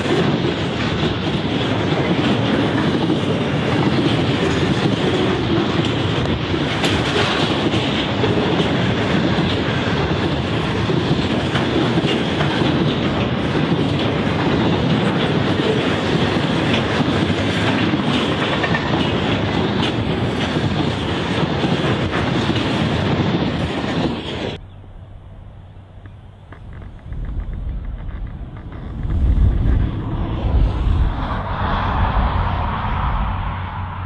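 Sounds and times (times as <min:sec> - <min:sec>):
wheels clicking over rail joints: 0:00.0 - 0:24.6, 0:25.9 - 0:30.0
freight train rumbling past: 0:00.0 - 0:34.0.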